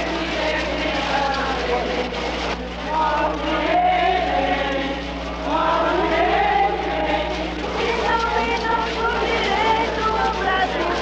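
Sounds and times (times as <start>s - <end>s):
crowd singing together: 0.0s - 11.0s
low electrical hum: 0.0s - 11.0s.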